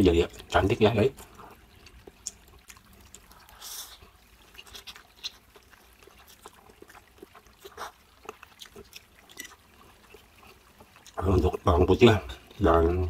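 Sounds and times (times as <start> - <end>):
soft wet chewing: 0.0 - 13.0
mouth clicks and smacks: 1.1 - 11.6.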